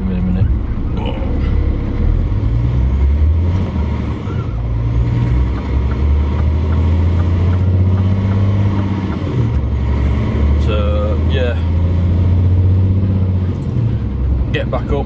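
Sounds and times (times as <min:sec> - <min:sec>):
diesel lorry engine droning: 0:00.0 - 0:15.0.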